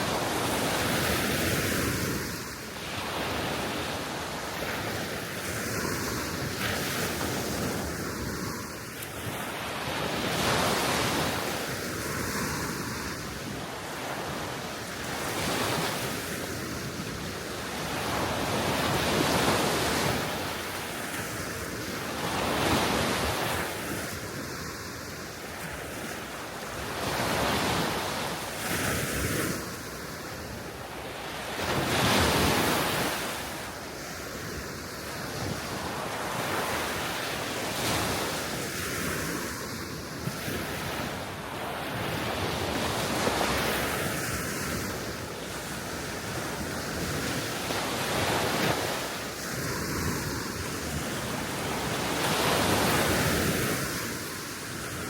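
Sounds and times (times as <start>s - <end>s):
small waves washing onto shore: 0.0s - 55.0s.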